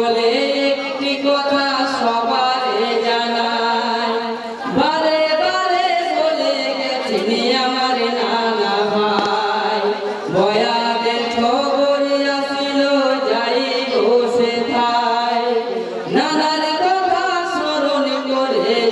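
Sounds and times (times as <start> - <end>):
man singing lament through loudspeakers: 0.0 - 18.9.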